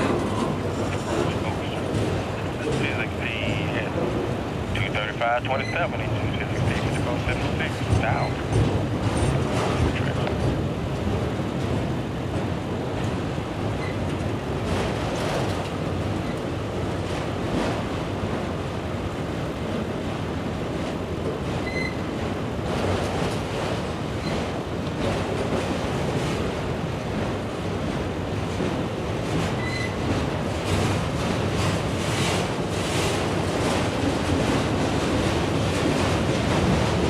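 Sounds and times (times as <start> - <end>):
freight train rumbling and rattling: 0.0 - 37.0.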